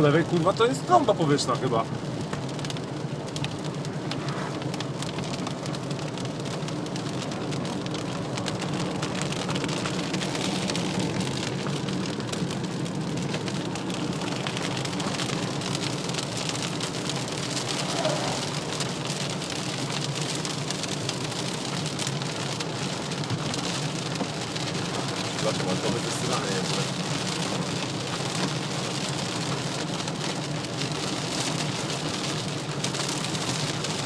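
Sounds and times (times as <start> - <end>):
rain pattering on a hard surface: 0.0 - 34.0.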